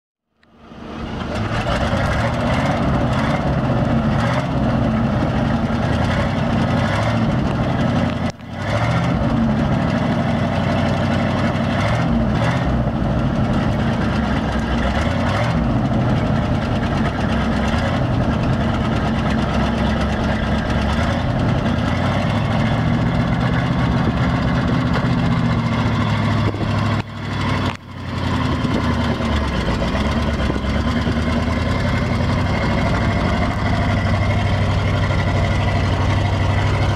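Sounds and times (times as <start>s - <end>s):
truck engine idling: 0.4s - 36.9s.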